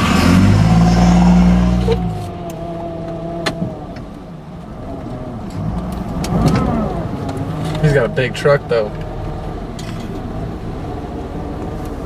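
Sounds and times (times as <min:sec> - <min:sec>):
steady vehicle noise: 0:00.0 - 0:12.0.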